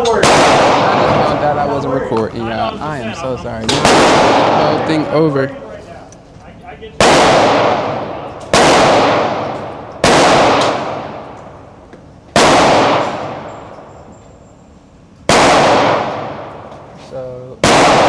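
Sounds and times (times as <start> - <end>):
echoing gunshots: 0.0 - 2.0, 3.0 - 5.5, 6.9 - 14.2, 15.2 - 18.0.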